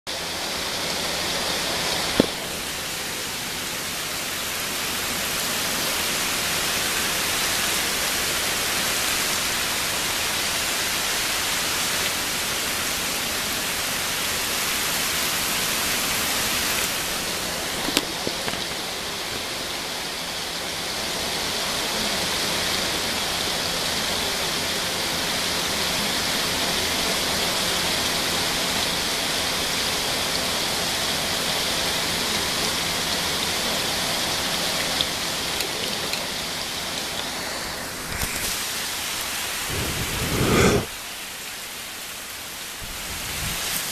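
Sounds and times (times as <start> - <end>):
steady rain falling: 0.1 - 43.9.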